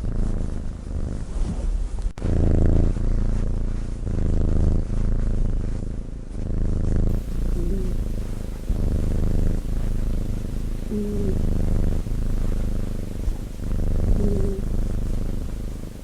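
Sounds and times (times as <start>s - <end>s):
cat purring and snoring: 0.0s - 16.0s.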